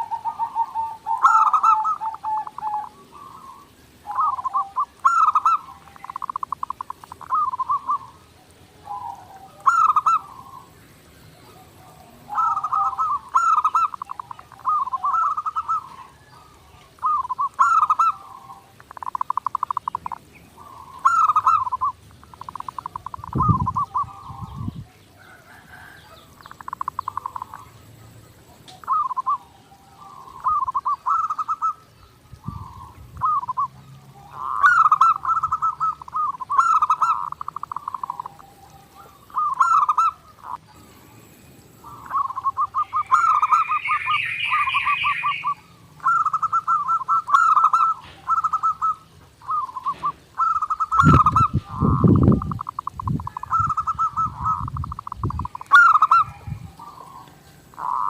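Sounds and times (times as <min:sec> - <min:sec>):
bird trilling call: 0:00.0 - 0:58.0
dove cooing: 0:00.0 - 0:58.0
small birds chirping: 0:00.0 - 0:58.0.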